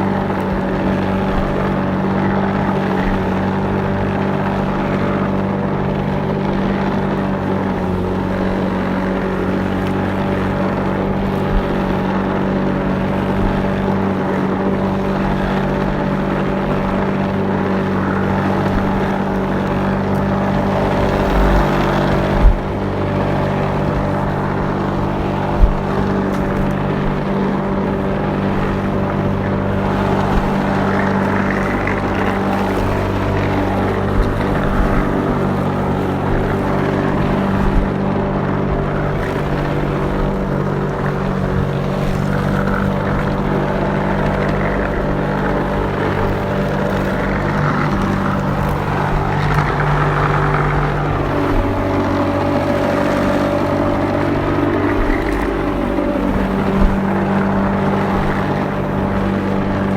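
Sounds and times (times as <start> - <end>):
lawnmower engine running: 0.0 - 59.9.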